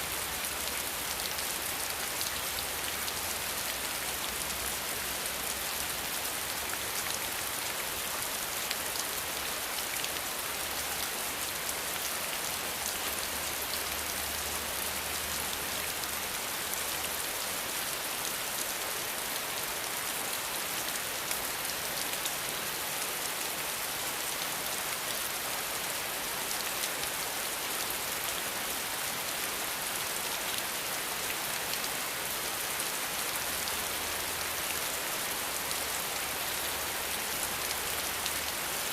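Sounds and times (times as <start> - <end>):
dense rainfall pattering: 0.0 - 38.9.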